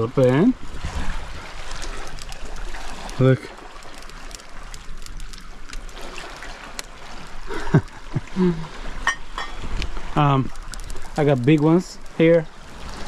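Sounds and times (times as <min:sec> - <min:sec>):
small waves lapping on rocks: 0:00.0 - 0:13.0.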